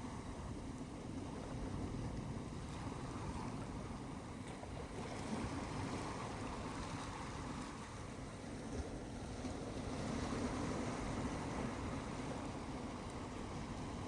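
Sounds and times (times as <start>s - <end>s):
ocean surf on beach: 0.0s - 14.0s
wind rumble on microphone: 0.0s - 14.0s.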